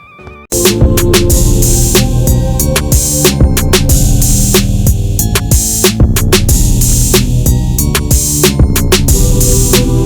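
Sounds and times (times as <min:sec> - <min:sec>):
drum machine beat with bass: 0:00.5 - 0:10.0.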